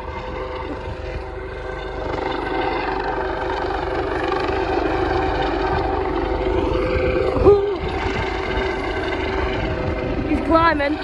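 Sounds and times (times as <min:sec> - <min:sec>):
helicopter rotor rumble: 0:00.0 - 0:11.0
helicopter turbine whine: 0:00.0 - 0:11.0.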